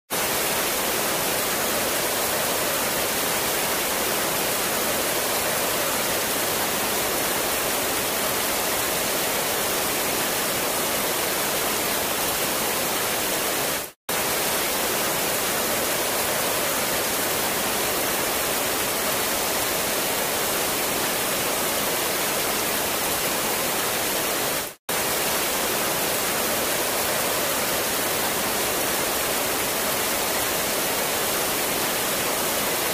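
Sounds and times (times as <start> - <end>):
waterfall rushing into pool: 0.1 - 32.9.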